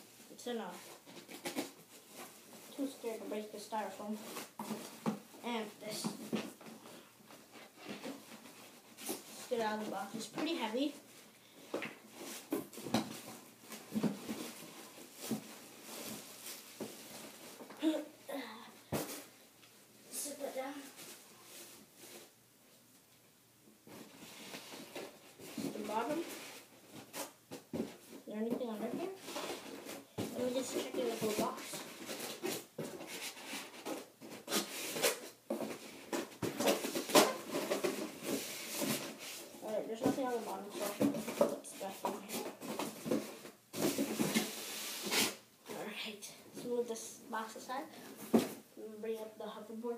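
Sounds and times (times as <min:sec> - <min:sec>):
cardboard and styrofoam rustling: 0:00.2 - 0:18.1, 0:20.1 - 0:22.4, 0:23.9 - 0:46.0, 0:46.6 - 0:48.8.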